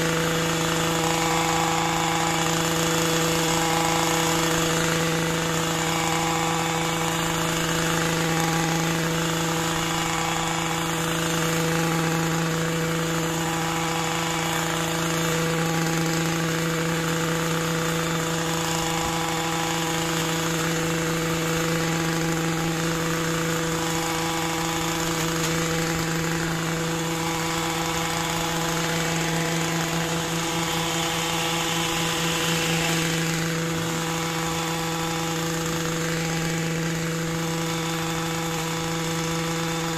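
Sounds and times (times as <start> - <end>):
hedge trimmer engine running: 0.0 - 39.9.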